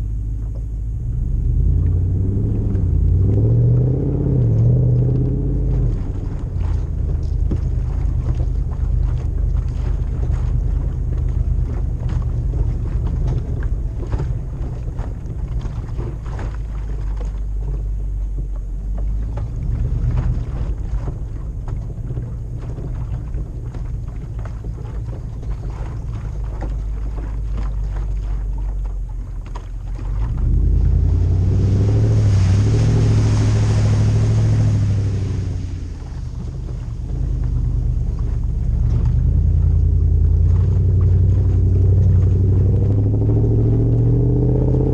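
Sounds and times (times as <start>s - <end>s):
car engine rumbling: 0.0s - 44.9s.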